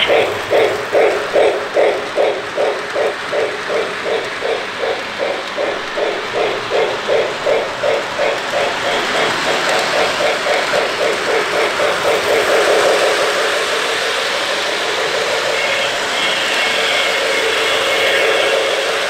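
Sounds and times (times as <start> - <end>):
toy steam train chuffing: 0.0 - 19.0
toy train running on track: 0.0 - 19.0.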